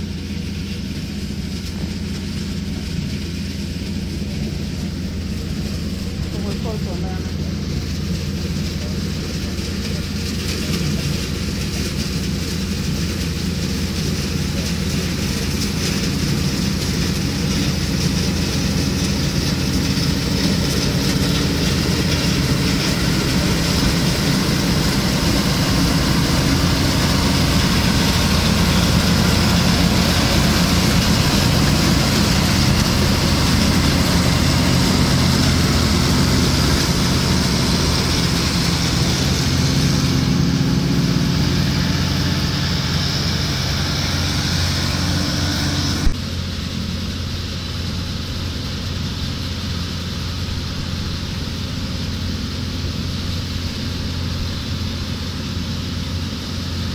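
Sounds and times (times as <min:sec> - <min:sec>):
combine harvester engine drone: 0:00.0 - 0:56.9
threshing machinery noise: 0:00.0 - 0:56.9.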